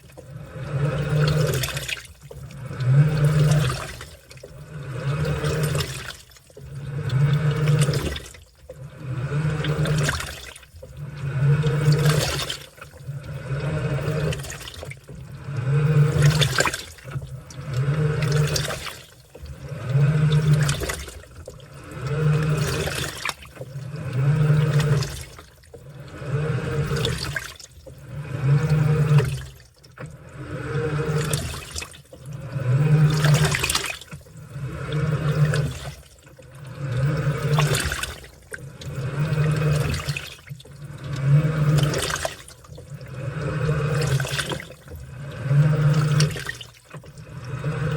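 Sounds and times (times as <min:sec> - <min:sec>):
low motor hum: 0:00.0 - 0:47.9
washing machine churning water: 0:00.0 - 0:47.9.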